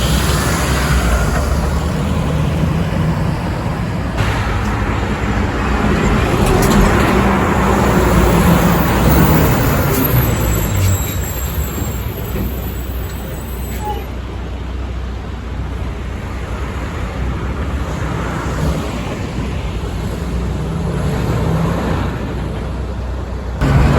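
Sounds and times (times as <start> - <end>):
diesel truck driving past: 0.0 - 16.8, 19.6 - 23.9.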